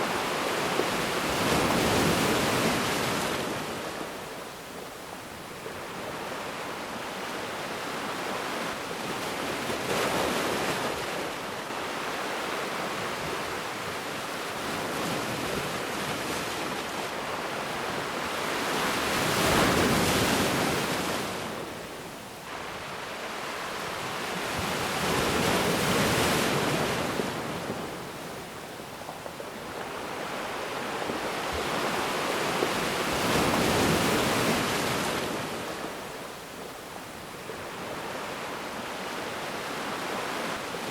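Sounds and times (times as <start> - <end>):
ocean waves washing ashore: 0.0 - 40.9.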